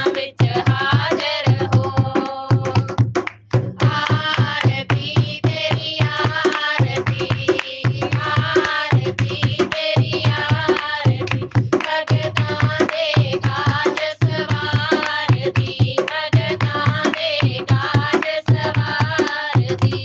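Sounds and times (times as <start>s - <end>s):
hand drum beat: 0.0s - 20.0s.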